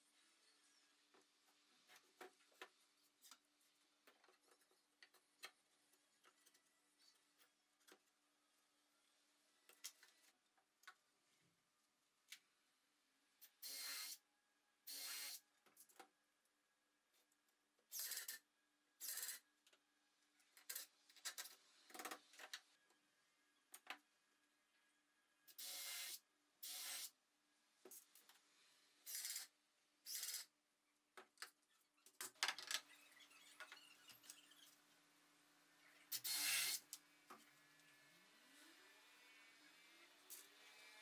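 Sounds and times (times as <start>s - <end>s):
faint workshop hum: 0.0s - 41.0s.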